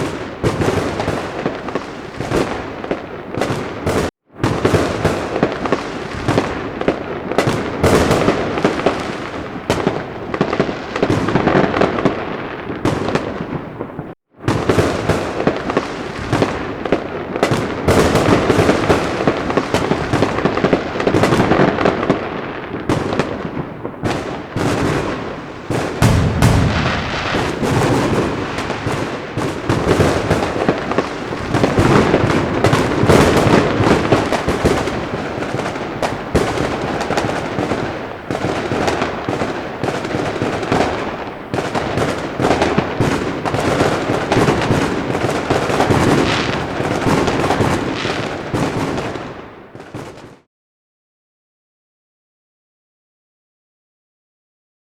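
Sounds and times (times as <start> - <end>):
fireworks bursting and crackling: 0.0 - 50.5.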